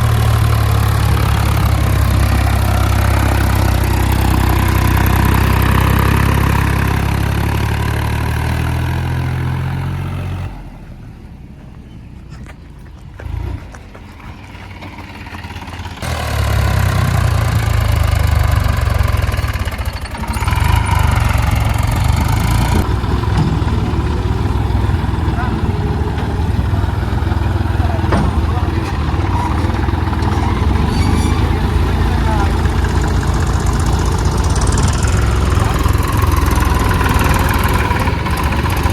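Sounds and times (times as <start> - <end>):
tractor diesel engine humming: 0.0 - 38.9.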